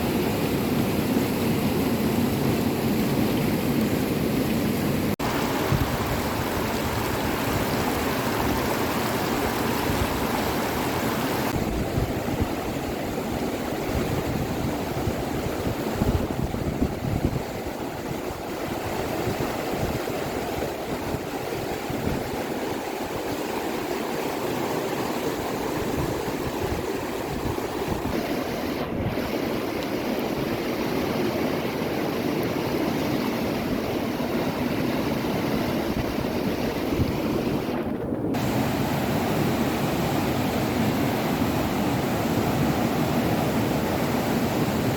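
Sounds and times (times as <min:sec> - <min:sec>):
water rushing: 0:00.0 - 0:44.9
wind buffeting microphone: 0:05.2 - 0:24.1, 0:25.0 - 0:31.0, 0:33.4 - 0:44.9.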